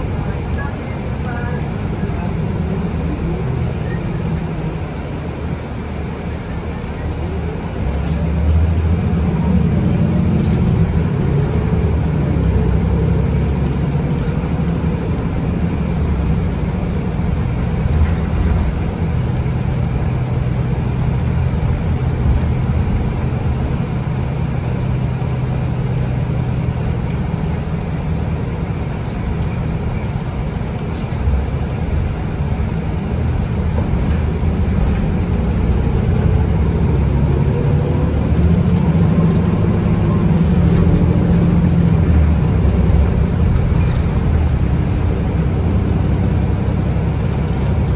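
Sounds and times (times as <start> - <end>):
bus diesel engine running: 0.0 - 47.9
tyre and road noise: 0.0 - 47.9.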